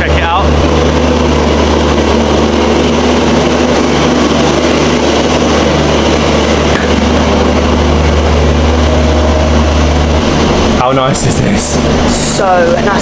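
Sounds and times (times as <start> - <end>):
train engine humming: 0.0 - 13.0.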